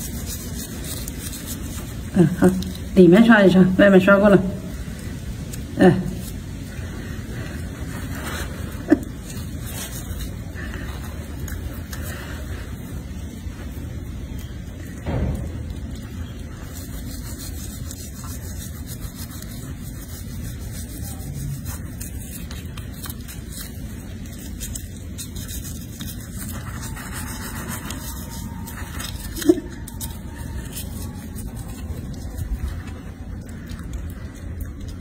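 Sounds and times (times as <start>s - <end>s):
toothbrush scrubbing teeth: 0.0s - 15.0s, 15.7s - 35.0s.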